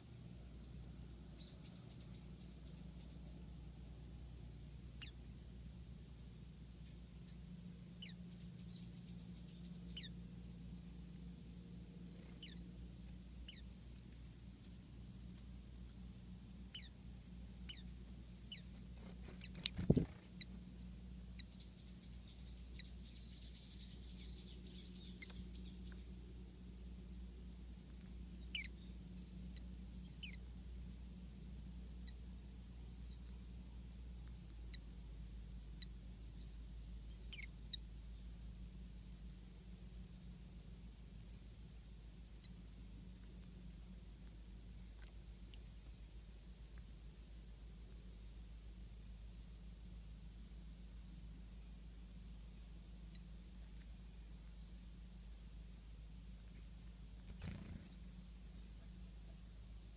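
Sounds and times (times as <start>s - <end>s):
faint low hum: 0.0s - 59.9s
songbirds chirping: 0.0s - 59.9s.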